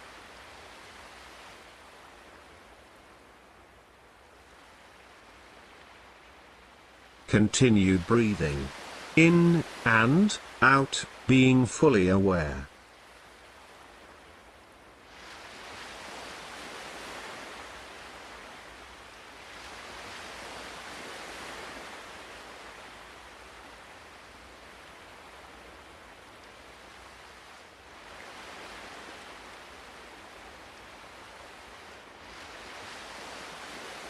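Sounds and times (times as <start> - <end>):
ocean waves washing on shore: 0.0 - 34.0.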